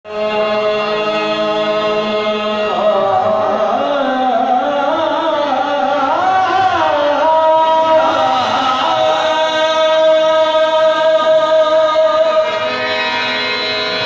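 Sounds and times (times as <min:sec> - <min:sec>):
man singing: 0:00.0 - 0:12.8
harmonium chord: 0:00.1 - 0:14.0.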